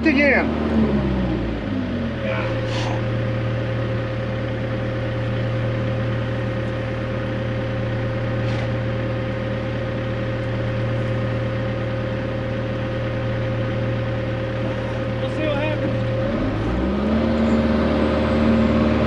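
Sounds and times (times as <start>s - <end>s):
diesel engine humming: 0.0s - 19.0s
steady whine: 0.0s - 19.0s.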